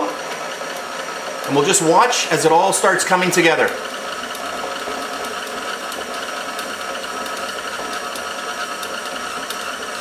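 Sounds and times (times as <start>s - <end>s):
paddle turning through dough: 0.0s - 10.0s
stand mixer motor running: 0.0s - 10.0s.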